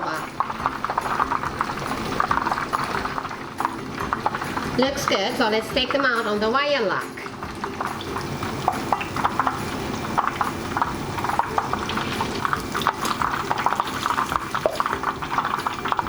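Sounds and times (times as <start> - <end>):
oil sizzling with pops: 0.0 - 16.0.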